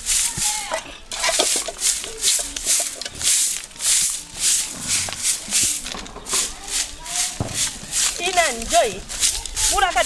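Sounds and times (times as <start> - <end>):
broom sweeping sandy ground: 0.0 - 10.0.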